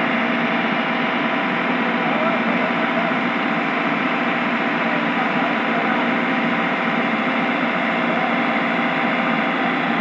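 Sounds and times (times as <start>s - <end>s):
diesel engine drone: 0.0s - 10.0s.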